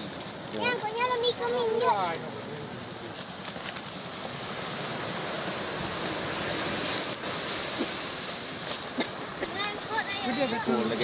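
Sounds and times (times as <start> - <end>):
breaking waves: 0.0 - 11.0.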